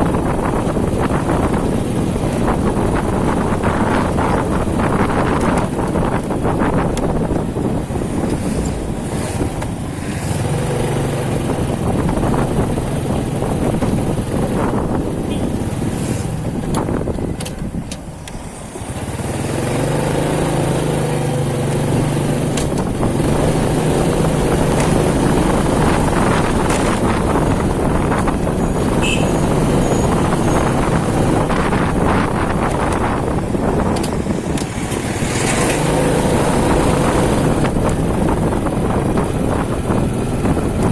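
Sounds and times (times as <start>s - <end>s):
motorcycle engine running: 0.0s - 17.9s, 18.6s - 40.9s
road noise rush: 0.0s - 40.9s.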